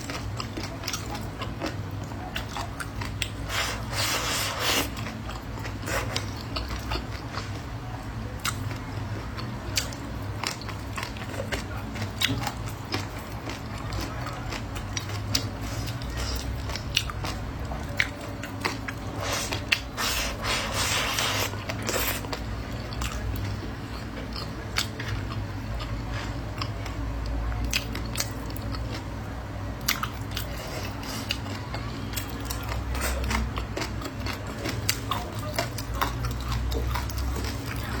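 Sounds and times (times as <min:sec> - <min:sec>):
person chewing food: 0:00.0 - 0:07.7, 0:08.4 - 0:29.1, 0:29.8 - 0:38.0.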